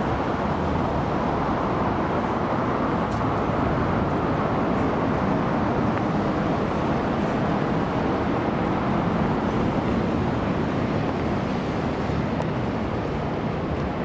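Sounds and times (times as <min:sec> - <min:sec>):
traffic hum: 0:00.0 - 0:14.0
urban background noise: 0:00.0 - 0:14.0.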